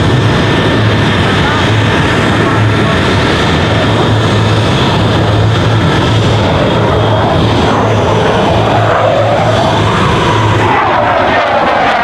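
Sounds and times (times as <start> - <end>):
jet roar overhead: 0.0 - 12.0.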